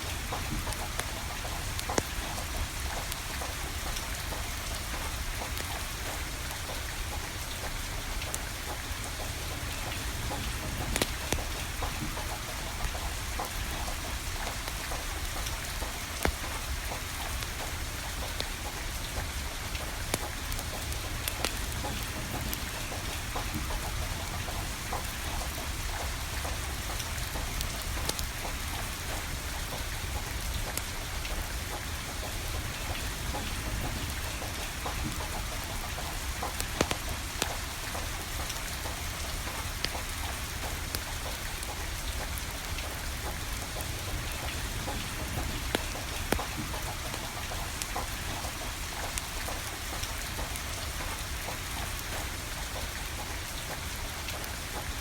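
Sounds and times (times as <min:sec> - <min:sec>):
steady rain falling: 0:00.0 - 0:55.0
wood fire crackling and popping: 0:00.1 - 0:54.6.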